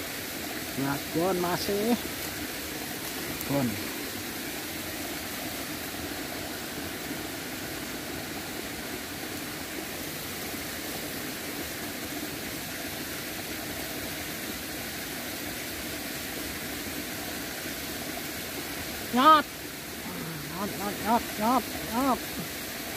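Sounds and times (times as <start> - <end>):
flowing river water: 0.0 - 22.9.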